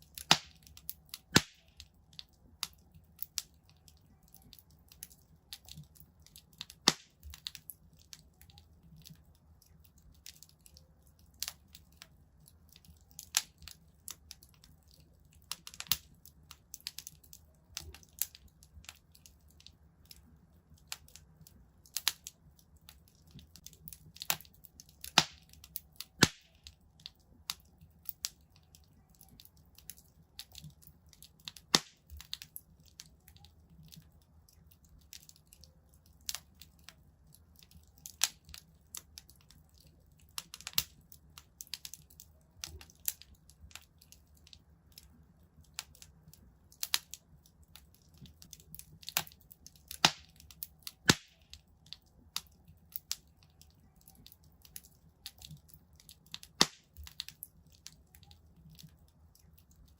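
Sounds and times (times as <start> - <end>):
low rumble of burning logs: 0.0 - 59.9
wood fire crackling: 0.0 - 59.9.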